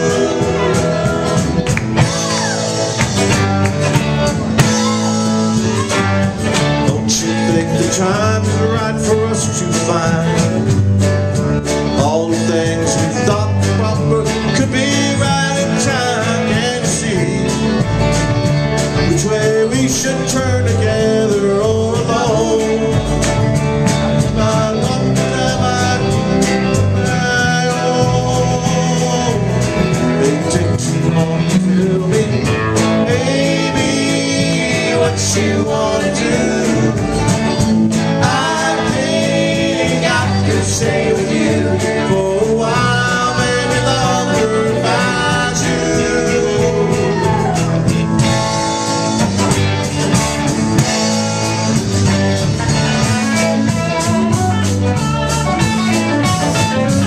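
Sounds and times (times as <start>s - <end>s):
live band playing loudly: 0.0s - 57.0s.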